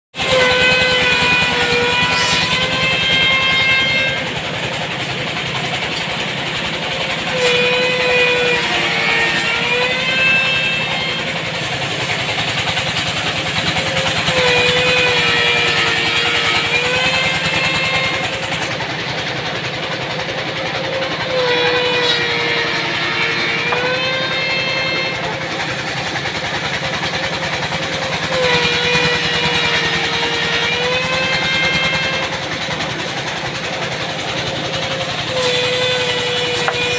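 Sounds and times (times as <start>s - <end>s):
woodworking machine motor humming: 0.2s - 36.9s.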